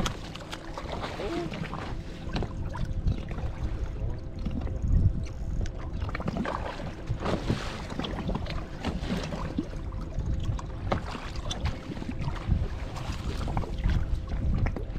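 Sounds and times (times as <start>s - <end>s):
water lapping against boat hull: 0.0s - 14.9s
water splashes: 0.0s - 14.9s
wind buffeting microphone: 0.0s - 14.9s.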